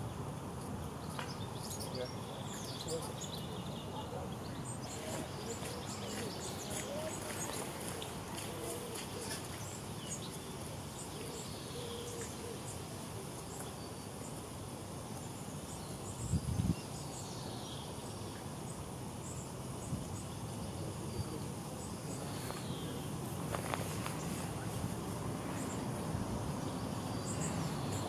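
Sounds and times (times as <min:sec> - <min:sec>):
small birds chirping: 0:00.1 - 0:14.5, 0:15.2 - 0:28.0.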